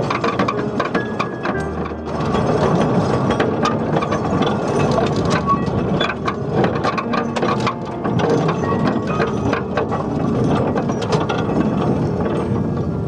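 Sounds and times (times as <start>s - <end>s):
railcar body rattling: 0.0s - 13.0s
train wheels clattering over rail joints: 0.0s - 13.0s.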